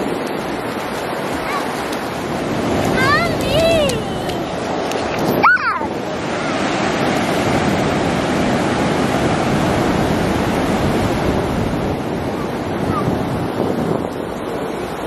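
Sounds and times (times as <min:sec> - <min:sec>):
waves breaking on sandy shore: 0:00.0 - 0:15.0.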